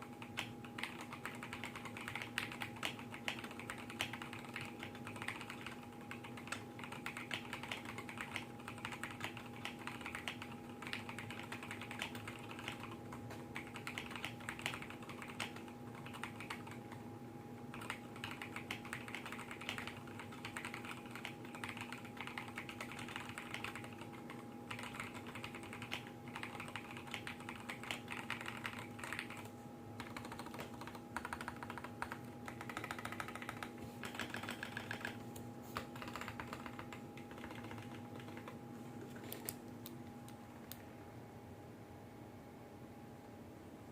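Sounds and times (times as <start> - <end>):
mechanical keyboard typing: 0.0 - 17.0, 17.6 - 40.8
faint background hum: 0.0 - 43.9.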